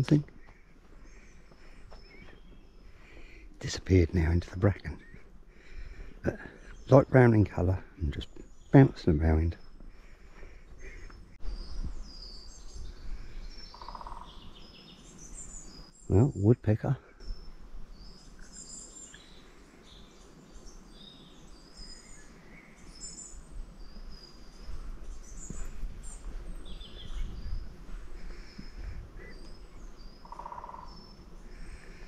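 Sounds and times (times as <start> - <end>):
birds chirping and whistling: 0.0 - 3.6, 4.2 - 9.0, 9.6 - 16.4, 17.2 - 32.0
footsteps on forest path: 0.0 - 15.8, 18.2 - 32.0.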